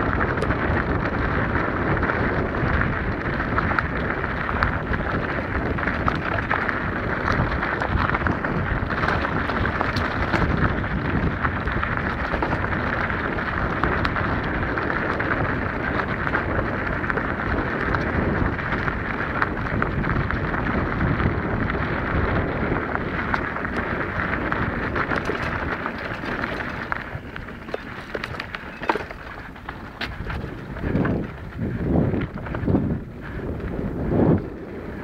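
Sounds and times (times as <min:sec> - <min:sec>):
bike knocking and rattling: 0:00.0 - 0:35.0
bike tyres crunching on gravel: 0:00.0 - 0:35.0.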